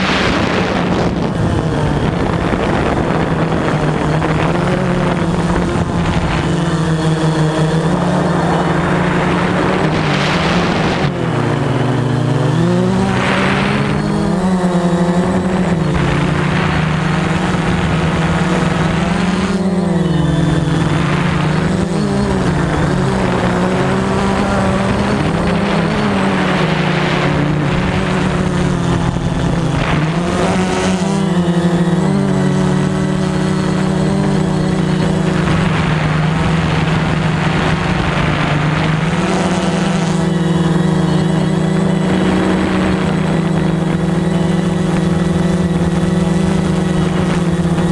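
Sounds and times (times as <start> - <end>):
drone motors whining: 0.0 - 47.9.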